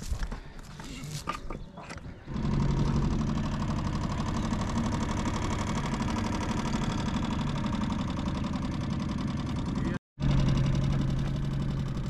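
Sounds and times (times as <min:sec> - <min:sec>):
outboard motor running: 0:01.9 - 0:12.0.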